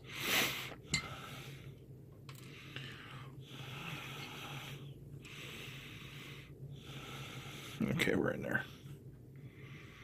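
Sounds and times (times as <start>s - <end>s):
man breathing: 0.0s - 8.0s, 8.6s - 10.0s
low steady hum: 0.0s - 10.0s.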